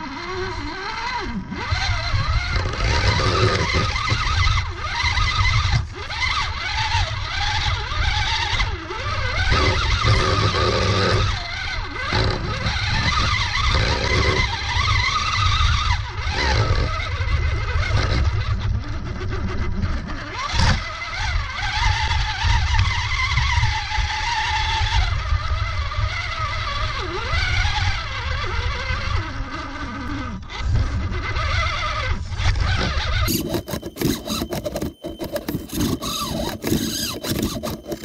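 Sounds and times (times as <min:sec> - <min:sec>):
toy motor and gears whining: 0:00.0 - 0:38.0.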